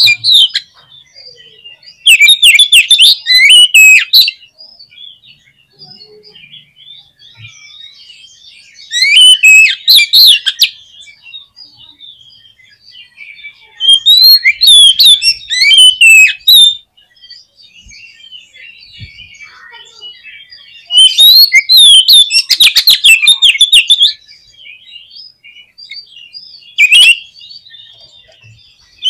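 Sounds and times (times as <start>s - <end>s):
bird singing whistled phrases: 0.0s - 28.1s
faint bird chirping: 0.0s - 29.0s.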